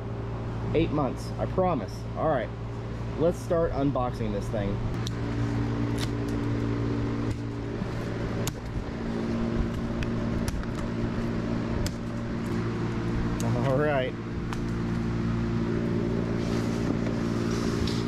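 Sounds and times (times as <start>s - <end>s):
air conditioner running: 0.0s - 18.0s
room fan humming: 0.0s - 18.0s.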